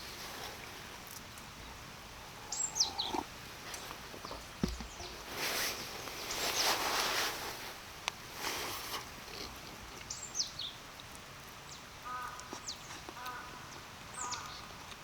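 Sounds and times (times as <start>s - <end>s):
forest birds chirping: 0.0s - 7.1s, 9.1s - 15.0s.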